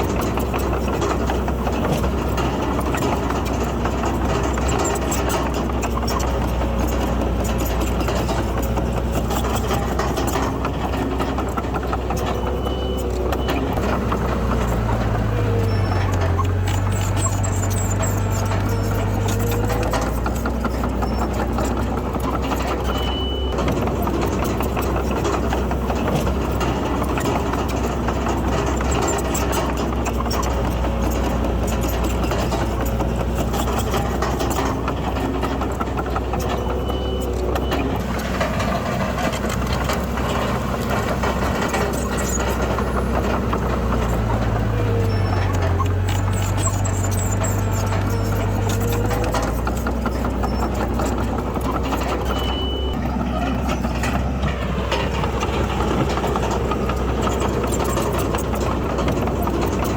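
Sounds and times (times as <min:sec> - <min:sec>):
bulldozer diesel engine running: 0:00.0 - 0:59.9
light clatter: 0:00.0 - 0:59.9.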